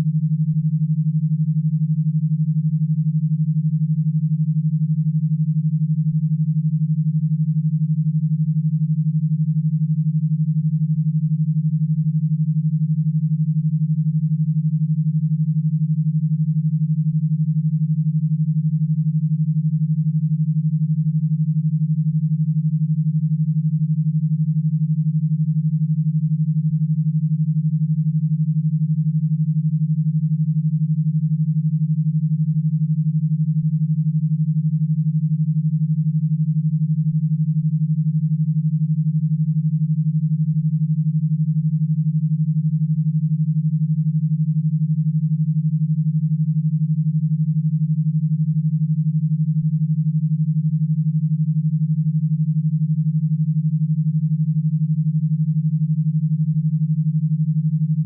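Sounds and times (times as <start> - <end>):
rapidly pulsed low tone: 0.0 - 58.0.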